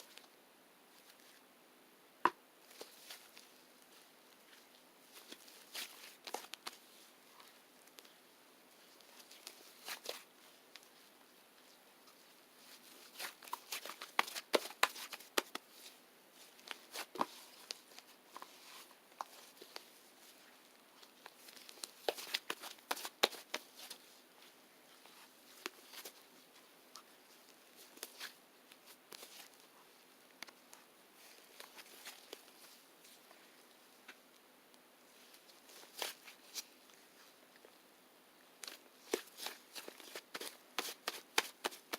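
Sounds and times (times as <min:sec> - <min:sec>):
rustles: 0:02.6 - 0:37.9, 0:38.5 - 0:41.9.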